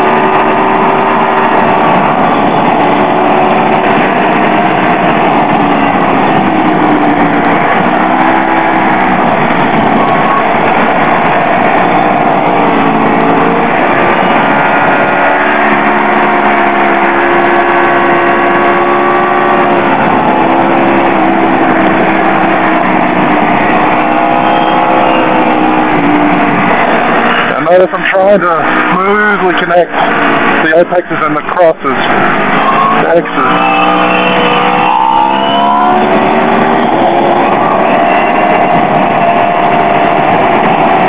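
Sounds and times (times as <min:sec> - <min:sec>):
wind rushing: 0:00.0 - 0:30.8, 0:31.9 - 0:41.0
motorcycle engine running hard: 0:00.0 - 0:41.0.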